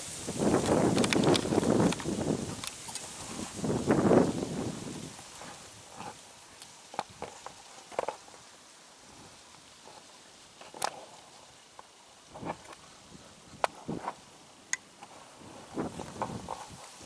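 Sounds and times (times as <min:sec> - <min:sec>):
footsteps in dry leaves: 0:00.0 - 0:12.6, 0:15.1 - 0:17.0
faint hiss: 0:00.0 - 0:17.0.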